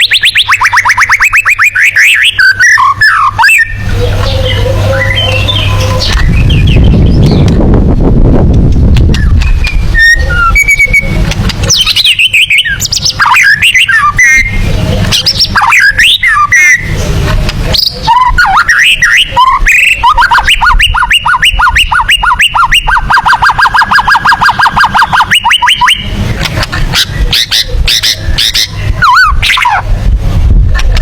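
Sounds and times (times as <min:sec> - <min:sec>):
songbird singing whistled phrases: 0:00.0 - 0:07.5, 0:09.1 - 0:16.9, 0:17.7 - 0:26.1, 0:27.0 - 0:29.8.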